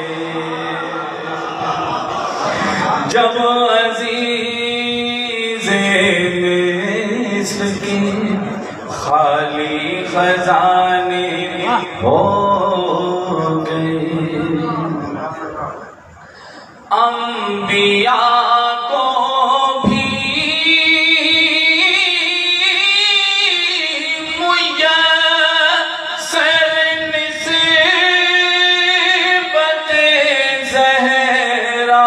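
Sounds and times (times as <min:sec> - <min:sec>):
man chanting through microphone: 0:00.0 - 0:32.0.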